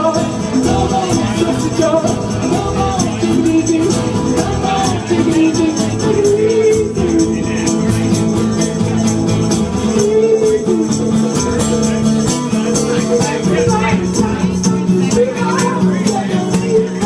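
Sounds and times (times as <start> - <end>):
shaker or tambourine: 0.0 - 17.0.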